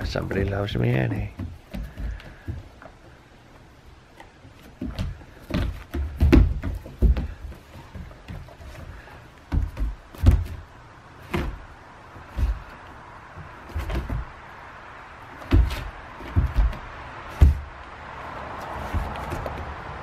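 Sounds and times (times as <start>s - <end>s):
dog paws thumping on plywood roof: 0.0s - 14.4s, 15.2s - 17.9s, 18.6s - 20.0s.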